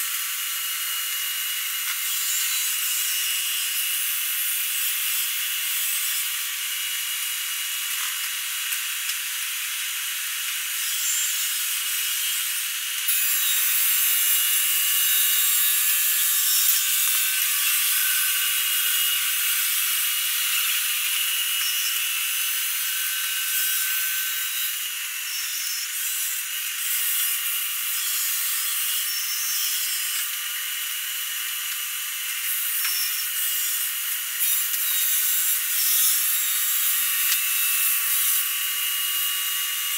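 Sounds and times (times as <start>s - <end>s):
polishing pad grinding on marble: 0.0s - 39.9s.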